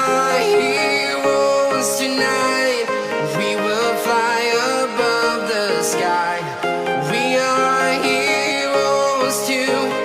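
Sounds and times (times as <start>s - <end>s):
background pop music: 0.0s - 10.0s.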